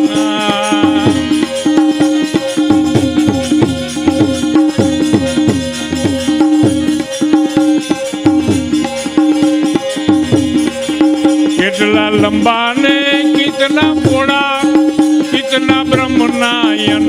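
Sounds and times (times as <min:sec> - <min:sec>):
hand drum beating: 0:00.0 - 0:17.0
harmonium melody: 0:00.0 - 0:17.0
jingling rattle percussion: 0:00.0 - 0:17.0.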